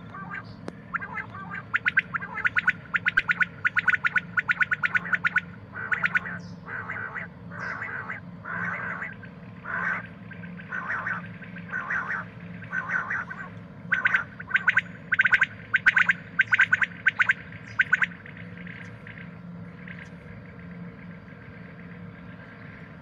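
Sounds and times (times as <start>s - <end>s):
quail calling: 0.0s - 18.8s.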